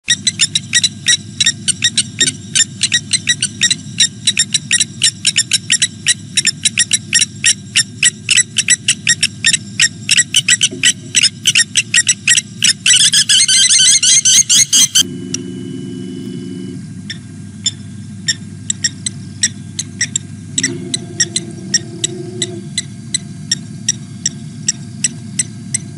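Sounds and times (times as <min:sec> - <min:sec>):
steady low hum: 0:00.0 - 0:25.9
night animal calling in pulses: 0:00.1 - 0:15.0, 0:17.1 - 0:24.0.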